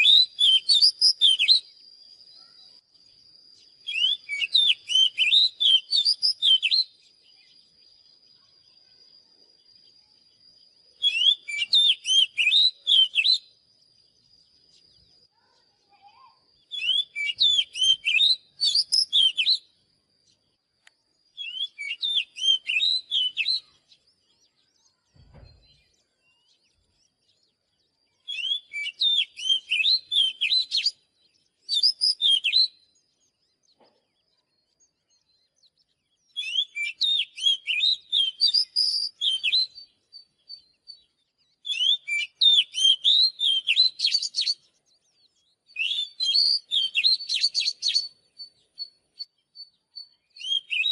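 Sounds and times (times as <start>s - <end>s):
bird singing whistled phrases: 0.0s - 2.8s, 3.5s - 19.8s, 21.2s - 33.4s, 34.4s - 50.9s.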